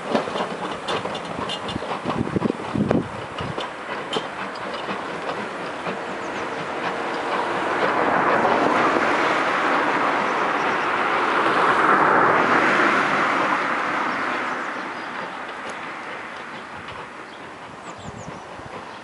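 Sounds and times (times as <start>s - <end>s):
steam train passing: 0.0s - 19.0s.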